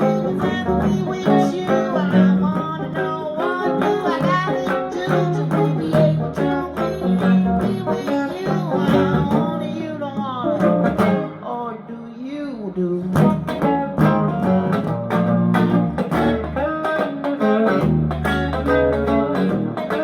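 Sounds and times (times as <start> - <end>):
guitar plucked and strummed: 0.0 - 20.0.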